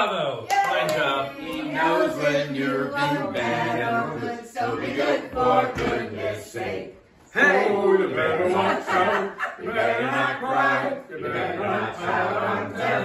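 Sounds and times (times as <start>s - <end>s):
group singing without instruments: 0.7s - 13.0s.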